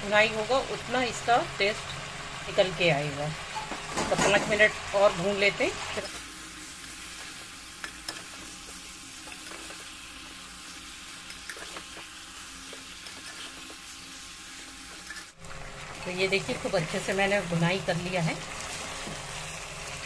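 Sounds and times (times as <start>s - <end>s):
meat sizzling in oil: 0.0s - 20.0s.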